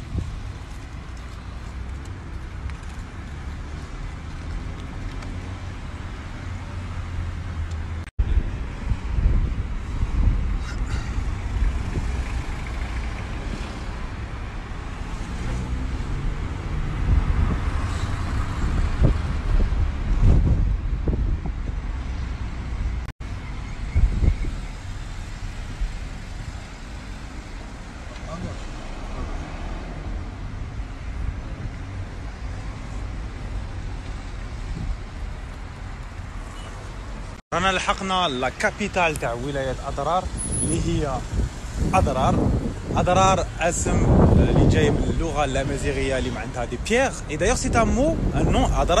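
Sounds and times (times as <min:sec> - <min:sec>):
passing cars rumble: 0:00.0 - 0:49.0.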